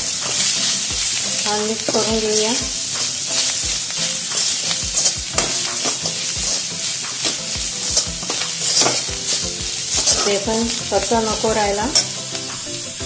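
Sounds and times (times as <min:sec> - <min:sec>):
spatula scraping a pan: 0:00.0 - 0:12.6
frying sizzle in oil: 0:00.0 - 0:13.0.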